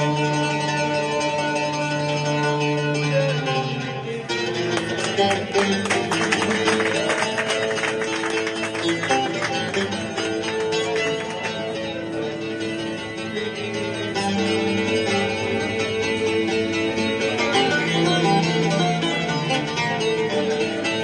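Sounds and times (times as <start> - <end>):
plucked string instrument music: 0.0 - 21.0.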